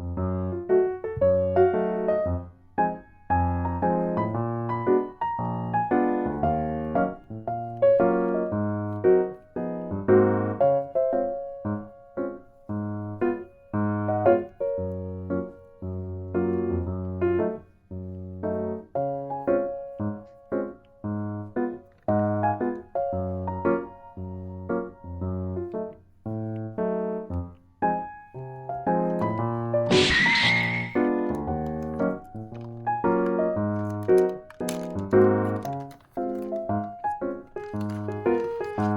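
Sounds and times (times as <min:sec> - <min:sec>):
light piano tune: 0:00.0 - 0:38.9.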